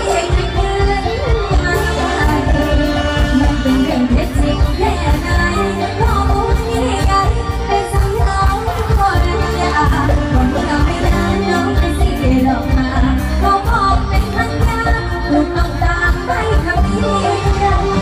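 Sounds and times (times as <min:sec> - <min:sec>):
live band with heavy bass: 0:00.0 - 0:18.0
woman singing into a microphone: 0:00.0 - 0:18.0.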